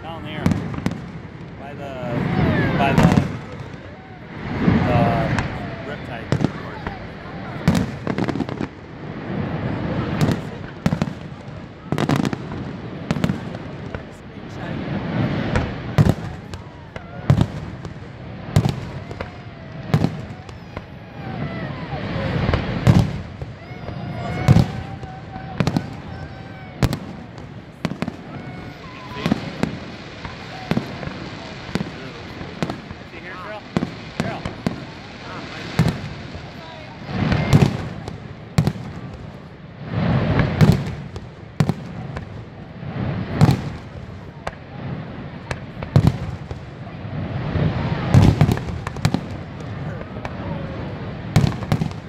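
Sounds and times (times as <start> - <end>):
fireworks bursting bangs: 0.0 - 52.0
steady rush of noise: 0.0 - 52.0.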